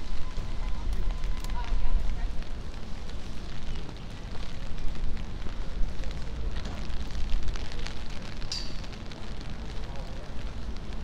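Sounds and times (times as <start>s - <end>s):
crackle and small ticks: 0.2s - 11.0s.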